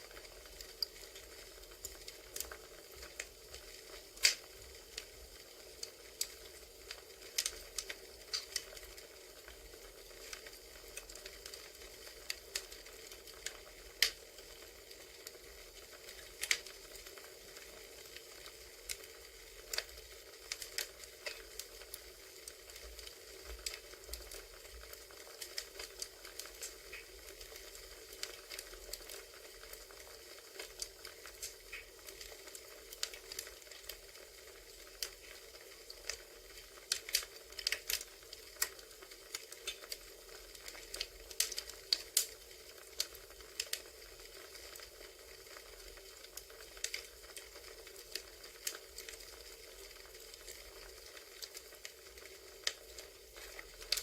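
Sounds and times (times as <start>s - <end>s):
crackling wood fire: 0.0s - 54.0s.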